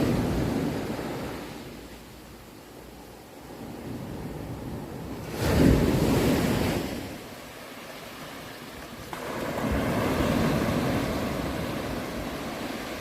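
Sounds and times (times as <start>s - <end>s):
sea waves surging: 0.0s - 13.0s.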